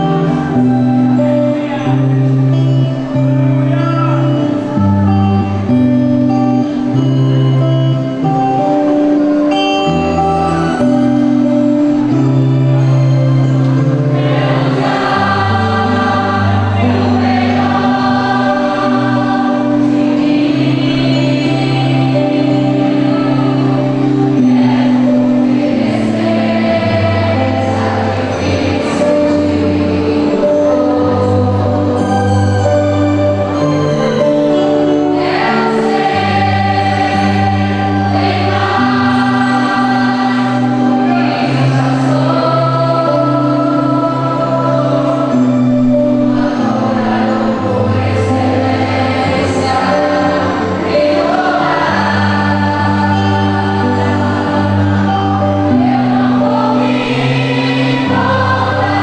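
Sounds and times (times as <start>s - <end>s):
choir singing gospel song: 0.0s - 59.0s
instrumental accompaniment with bass: 0.0s - 59.0s.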